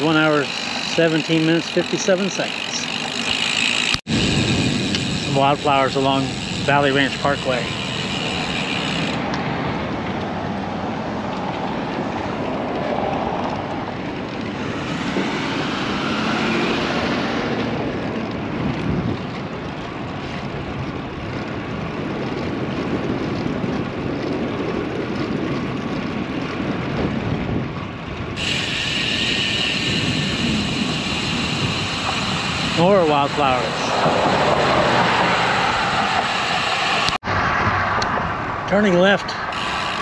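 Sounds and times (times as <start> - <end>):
bicycle tyre noise: 0.0 - 40.0
rushing wind: 0.0 - 40.0
wind buffeting microphone: 2.9 - 40.0.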